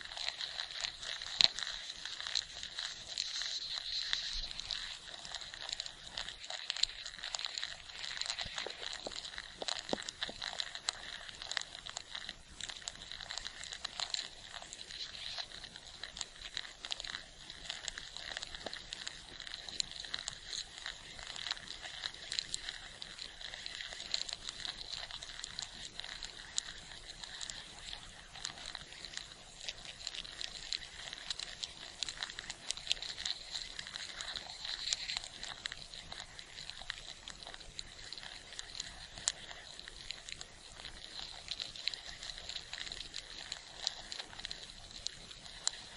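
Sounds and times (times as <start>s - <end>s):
ants crackling: 0.0s - 45.9s.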